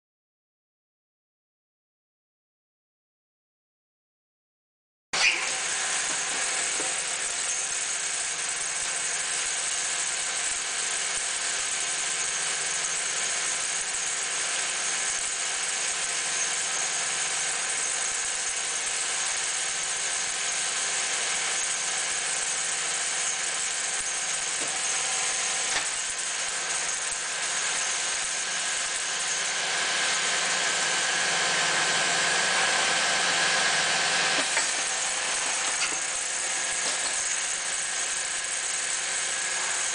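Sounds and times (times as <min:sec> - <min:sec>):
lathe running: 0:05.2 - 0:39.9.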